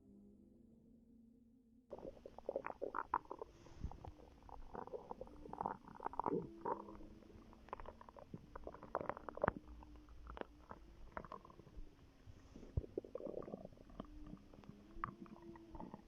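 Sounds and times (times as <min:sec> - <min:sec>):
stomach gurgling: 0:01.9 - 0:16.0.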